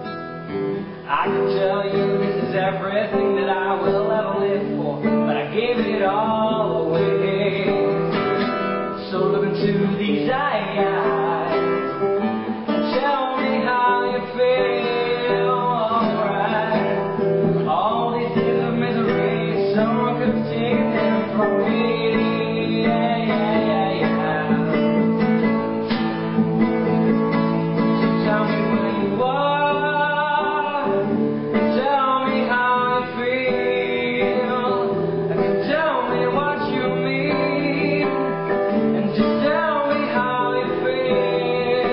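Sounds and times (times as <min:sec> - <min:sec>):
acoustic guitar playing: 0:00.0 - 0:41.9.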